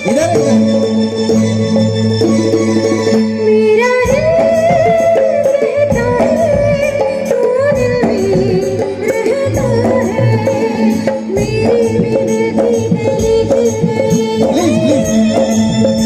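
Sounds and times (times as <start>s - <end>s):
hand drums: 0.0s - 16.0s.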